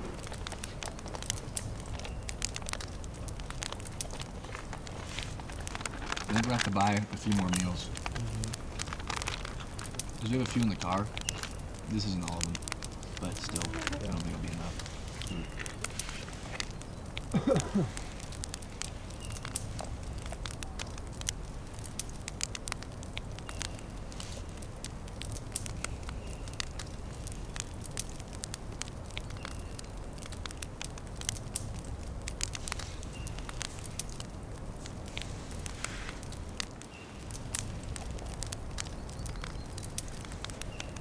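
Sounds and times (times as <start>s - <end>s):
campfire crackling and popping: 0.0s - 41.0s
low fire rumble: 0.0s - 41.0s.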